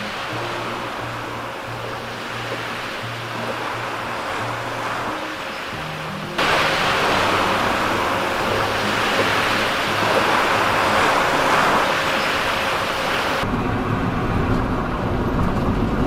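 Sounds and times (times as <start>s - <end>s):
sea waves washing in: 0.0s - 15.3s.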